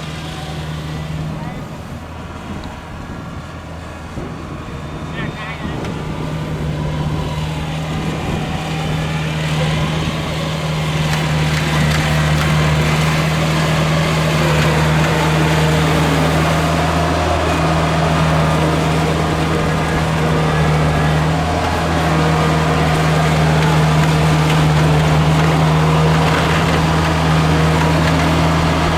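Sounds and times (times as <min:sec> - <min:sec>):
diesel engine droning under load: 0:00.0 - 0:28.9.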